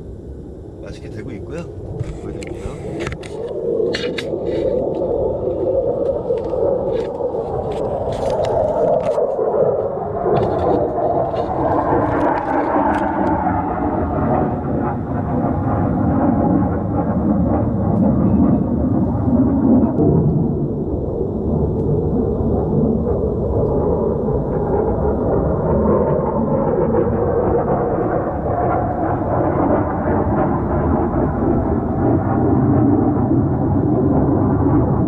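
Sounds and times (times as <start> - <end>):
jet aircraft rumble: 0.0 - 35.0.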